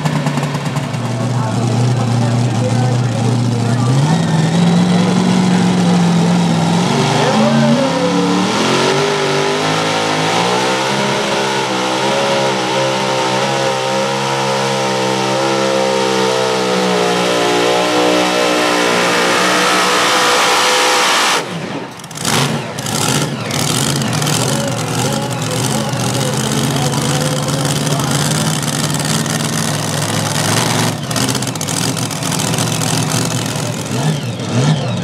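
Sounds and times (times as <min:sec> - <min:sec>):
tractor engine revving: 0:00.0 - 0:35.0.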